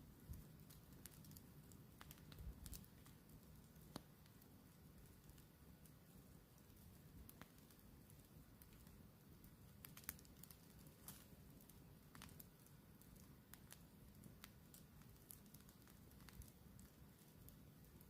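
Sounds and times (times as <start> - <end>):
campfire crackling: 0.0 - 18.0
low steady hiss: 0.0 - 18.0.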